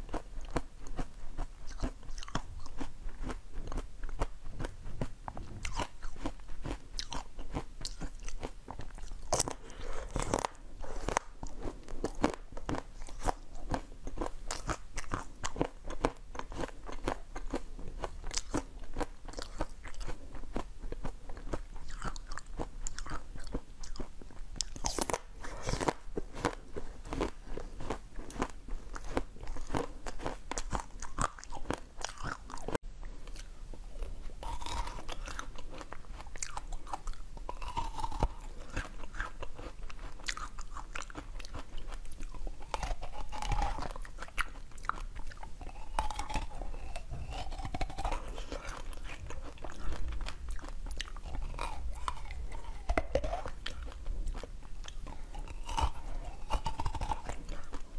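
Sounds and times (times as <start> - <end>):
person crunching and chewing: 0.0 - 57.9.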